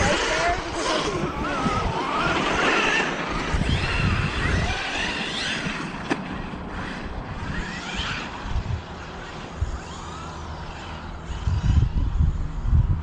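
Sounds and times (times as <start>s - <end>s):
electric motors whining: 0.0s - 13.0s
wind rumble on microphone: 0.0s - 13.0s.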